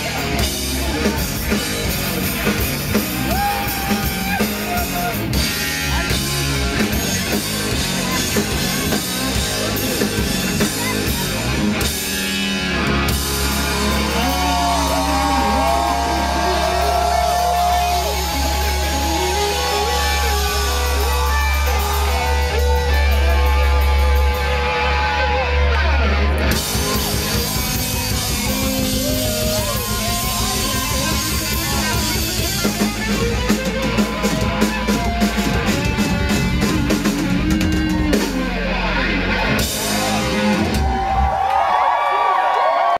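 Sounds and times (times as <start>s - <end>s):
live hard rock band: 0.0s - 42.9s.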